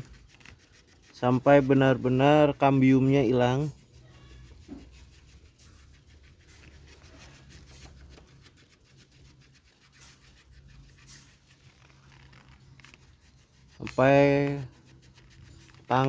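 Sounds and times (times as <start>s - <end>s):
knife scraping a branch: 0.0s - 16.0s.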